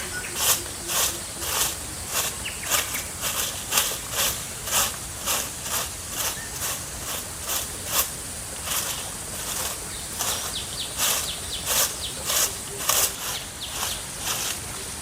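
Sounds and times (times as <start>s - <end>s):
footsteps crunching on dry ground: 0.0s - 15.0s
insect hiss: 0.0s - 15.0s.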